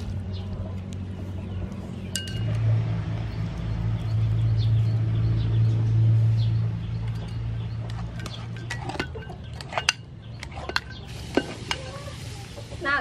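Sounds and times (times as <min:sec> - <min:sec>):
low motor hum: 0:00.0 - 0:11.6.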